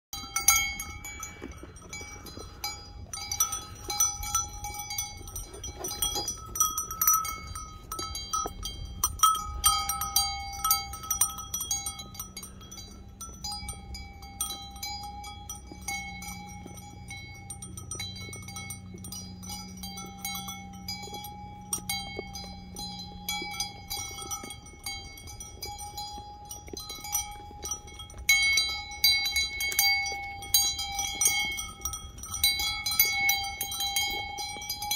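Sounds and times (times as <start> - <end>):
sheep collar bell clinking: 0.2 - 34.9.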